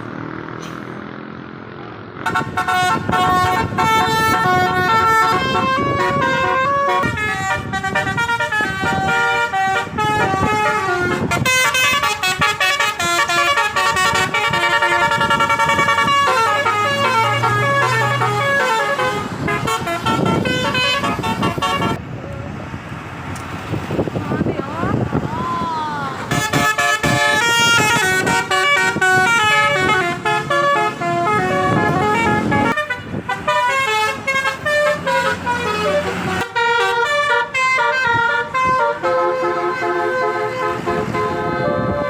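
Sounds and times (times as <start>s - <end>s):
bus musical air horn melody: 2.2s - 22.0s, 26.2s - 42.0s.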